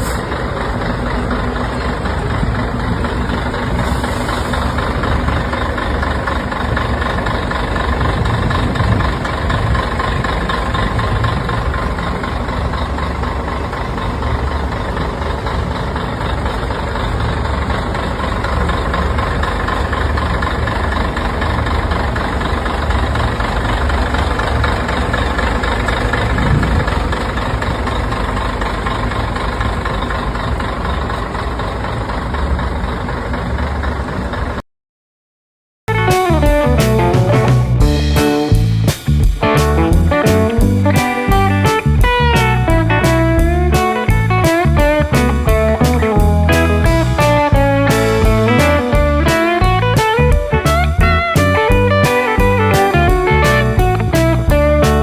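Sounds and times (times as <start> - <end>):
bus engine idling: 0.0 - 34.6, 35.9 - 55.0.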